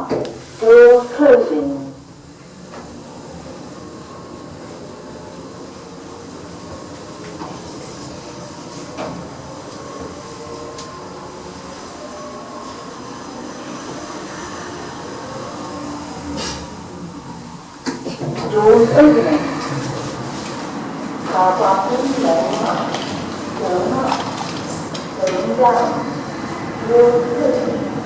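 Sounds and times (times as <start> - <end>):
lift car rumbling: 0.0 - 28.0.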